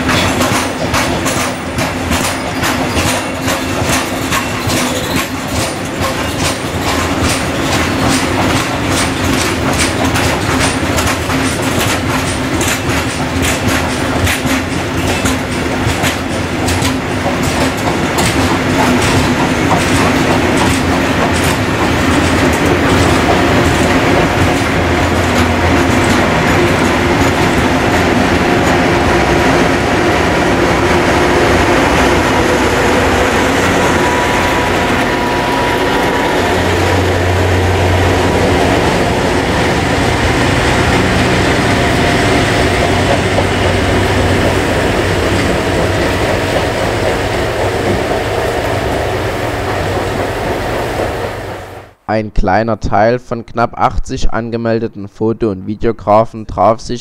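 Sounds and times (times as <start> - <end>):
train wheels clattering on rails: 0.0 - 52.0
diesel locomotive engine: 0.0 - 52.1.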